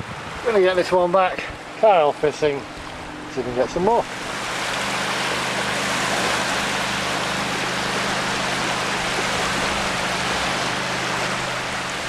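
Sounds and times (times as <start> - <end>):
lake waves washing ashore: 0.0 - 12.0.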